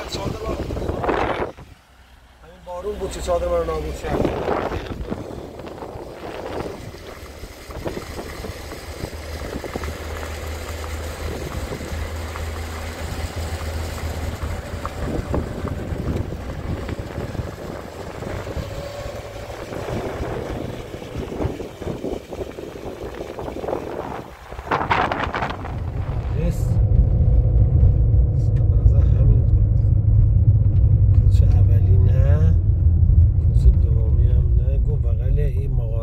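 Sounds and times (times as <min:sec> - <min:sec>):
car engine hum: 0:00.0 - 0:36.0
tyres rumbling on gravel: 0:00.0 - 0:36.0.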